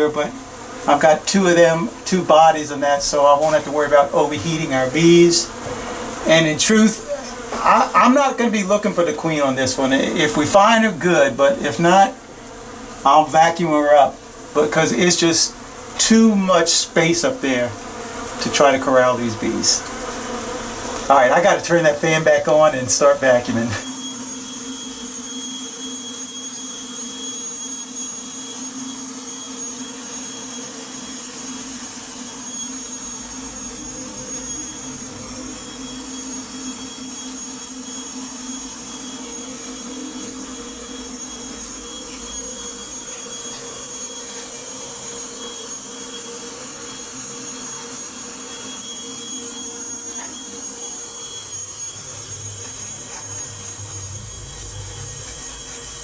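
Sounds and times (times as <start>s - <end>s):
vacuum motor drone with whine: 0.0s - 56.0s.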